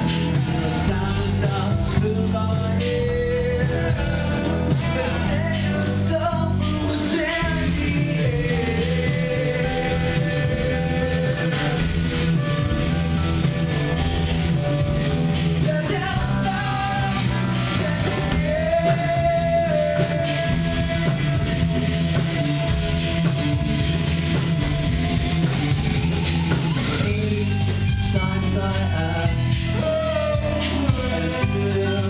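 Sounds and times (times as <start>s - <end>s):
live rock band: 0.0s - 32.0s
person singing: 0.0s - 32.0s.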